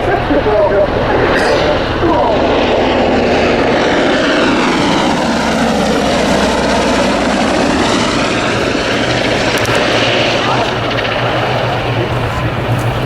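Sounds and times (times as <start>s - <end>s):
helicopter flying: 0.0s - 13.0s.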